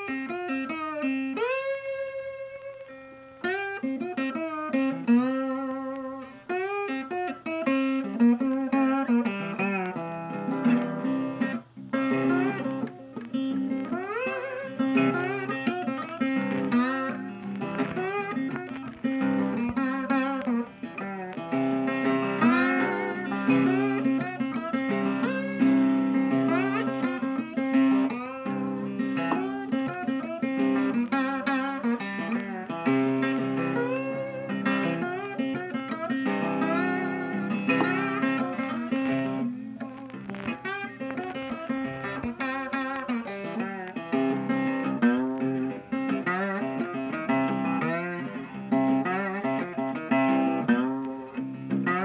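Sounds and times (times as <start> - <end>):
guitar melody with bending notes: 0.0 - 52.0.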